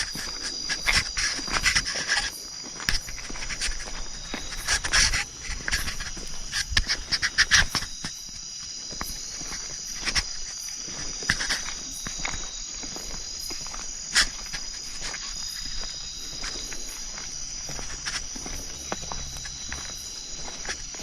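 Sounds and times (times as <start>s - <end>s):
footsteps: 0.0s - 21.0s
insects chirring: 0.0s - 21.0s.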